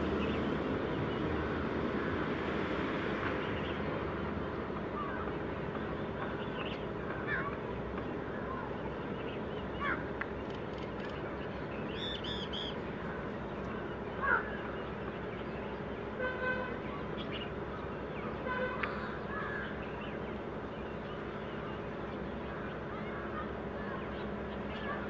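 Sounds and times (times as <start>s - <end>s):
birds calling: 0.0s - 25.0s
steady background hum: 0.0s - 25.0s.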